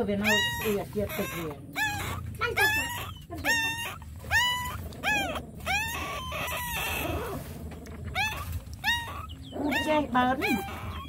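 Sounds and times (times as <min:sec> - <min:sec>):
puppy crying in high whines: 0:00.1 - 0:11.0.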